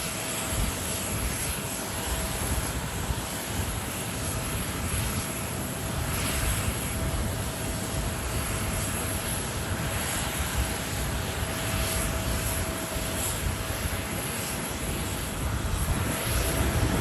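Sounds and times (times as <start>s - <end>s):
jet engines running: 0.0s - 17.0s
wind rumbling on microphone: 0.2s - 17.0s.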